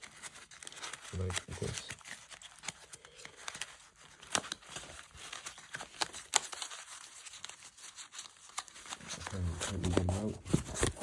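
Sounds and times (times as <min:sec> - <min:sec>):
paper packets crinkling: 0:00.0 - 0:11.0.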